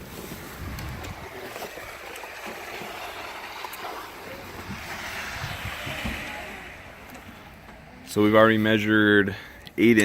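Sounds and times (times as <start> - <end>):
wind rumbling on microphone: 0.0 - 8.5
wind blowing: 0.0 - 9.5.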